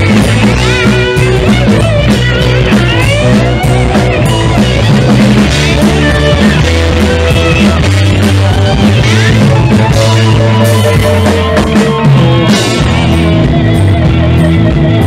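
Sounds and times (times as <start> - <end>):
electric guitar lead lines: 0.0 - 15.0
rock band playing: 0.0 - 15.0.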